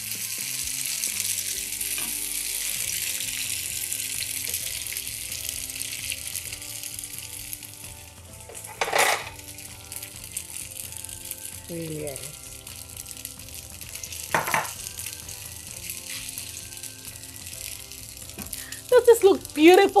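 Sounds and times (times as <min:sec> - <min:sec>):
spaghetti sizzling in oil: 0:00.0 - 0:20.0.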